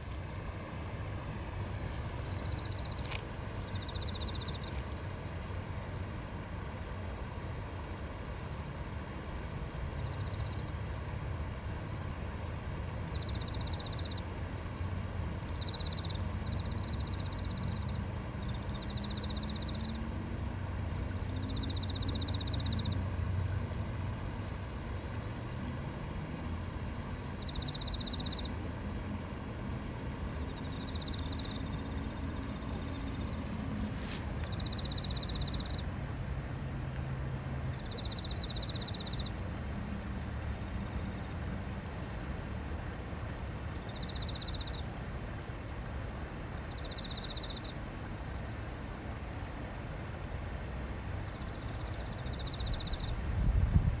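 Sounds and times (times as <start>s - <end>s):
river babbling: 0.0s - 53.4s.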